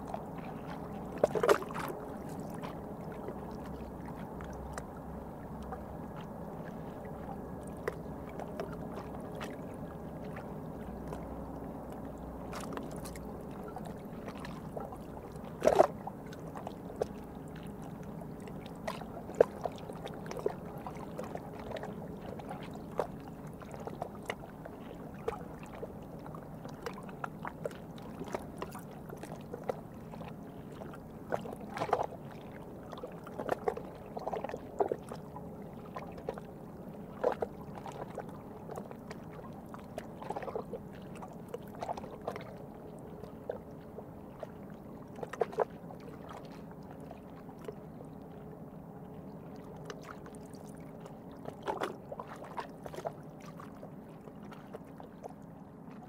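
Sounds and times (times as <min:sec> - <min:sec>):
low hum of distant traffic: 0:00.0 - 0:56.0.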